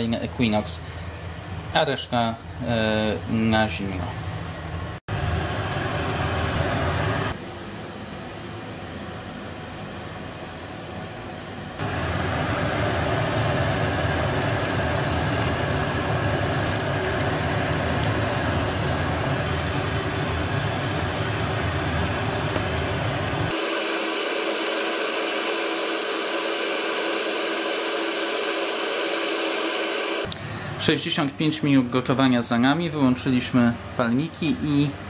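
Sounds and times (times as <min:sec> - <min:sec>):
gas burners roaring: 0:00.0 - 0:31.9.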